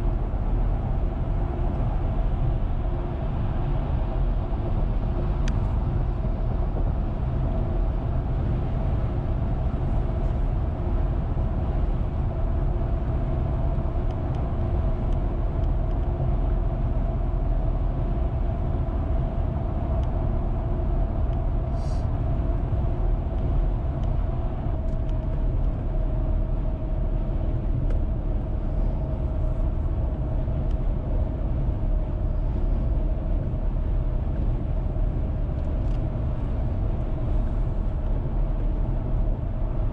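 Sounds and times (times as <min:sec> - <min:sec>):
tyres rumbling on road: 0:00.0 - 0:39.9.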